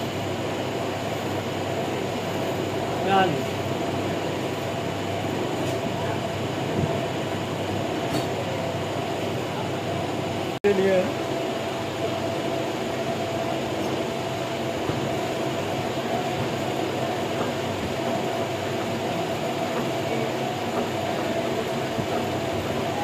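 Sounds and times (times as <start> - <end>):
machine running: 0.0 - 23.0.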